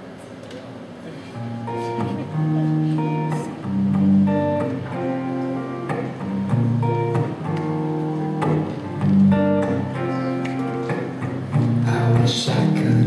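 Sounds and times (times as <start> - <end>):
acoustic guitar playing: 1.4 - 13.0.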